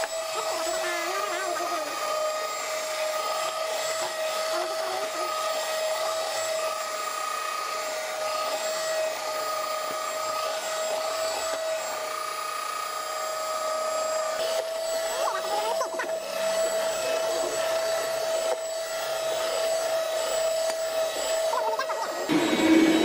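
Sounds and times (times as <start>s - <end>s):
electric hand mixer whining: 0.0s - 23.0s.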